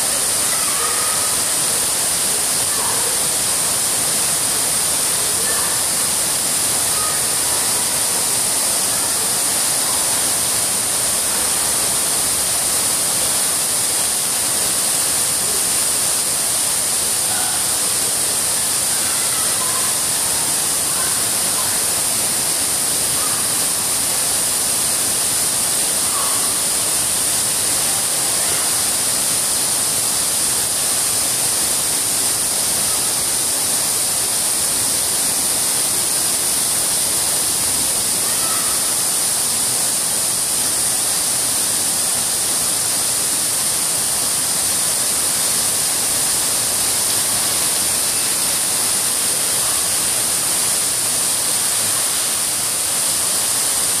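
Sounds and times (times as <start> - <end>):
water splashing from fountain: 0.0 - 54.0.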